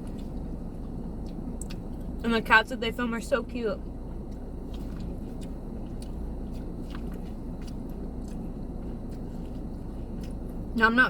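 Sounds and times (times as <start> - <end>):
person chewing food: 0.0 - 2.2, 3.8 - 10.8
steady low hum: 0.0 - 11.0.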